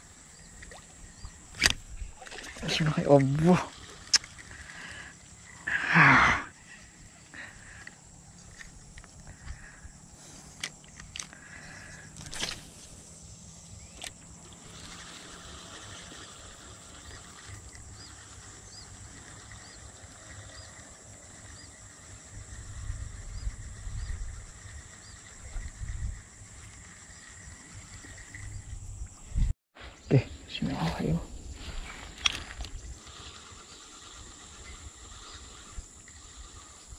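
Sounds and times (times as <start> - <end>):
high-pitched insect drone: 2.2 - 29.2, 30.5 - 36.9.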